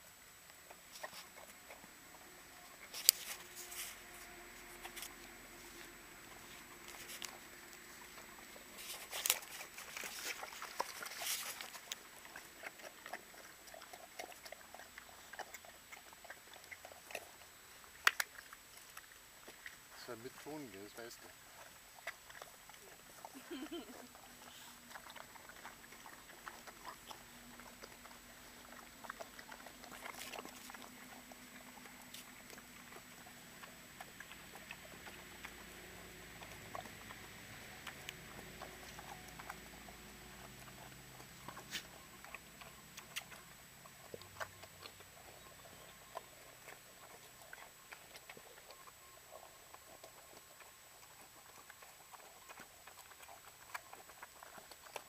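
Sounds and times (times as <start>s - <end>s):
pigs chewing and crunching: 0.0s - 55.0s.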